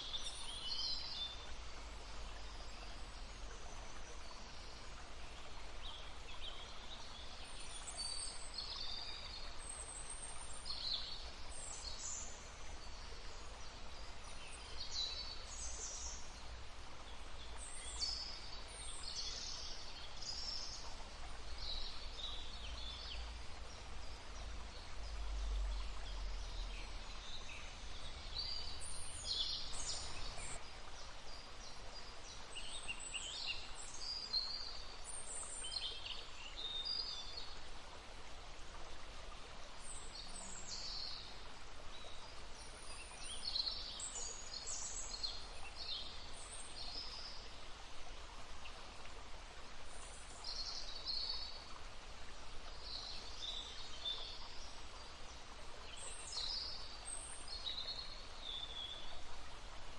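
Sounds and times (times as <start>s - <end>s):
faint babbling stream: 0.0s - 59.9s.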